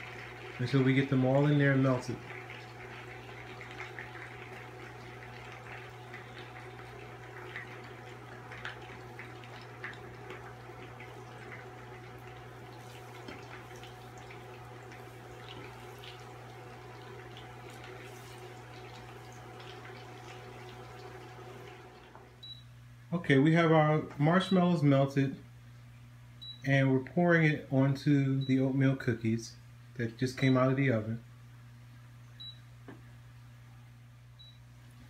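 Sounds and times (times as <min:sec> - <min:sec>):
cooktop low hum: 0:00.0 - 0:35.0.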